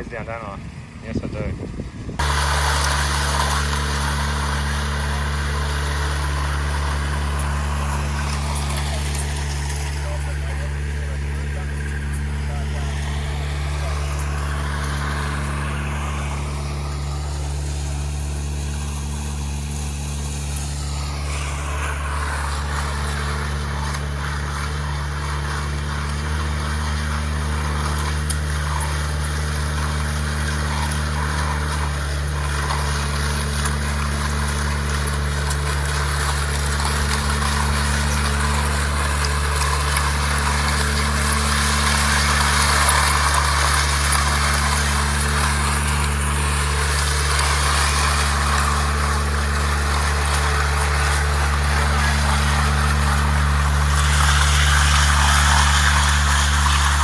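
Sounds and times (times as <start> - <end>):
power trowel engine running: 0.0 - 57.0.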